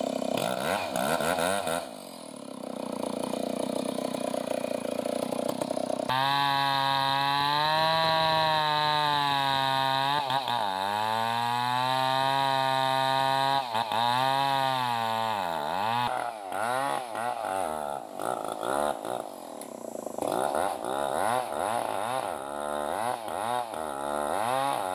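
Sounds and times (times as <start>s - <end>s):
chainsaw cutting log: 0.0s - 24.9s.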